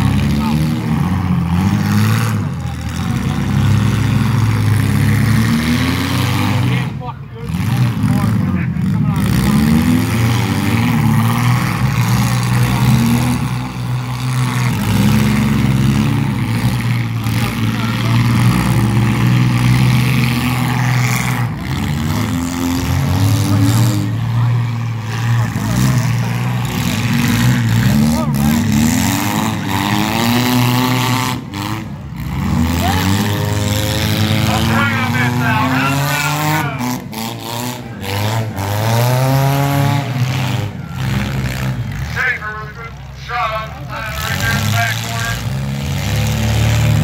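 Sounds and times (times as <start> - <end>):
car engine revving up: 0.0 - 47.0
car engines running loudly: 0.0 - 47.0.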